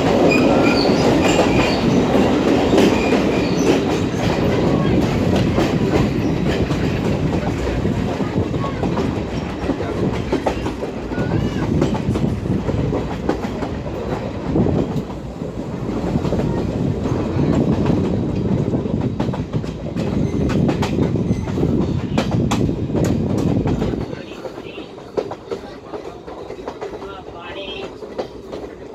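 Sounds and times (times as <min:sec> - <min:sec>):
train carriages rumbling: 0:00.0 - 0:28.9.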